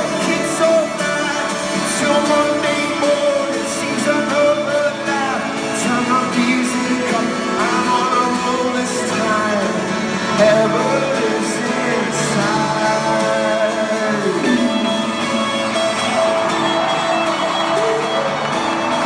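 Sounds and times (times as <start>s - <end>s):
live band music with singing: 0.0s - 19.0s.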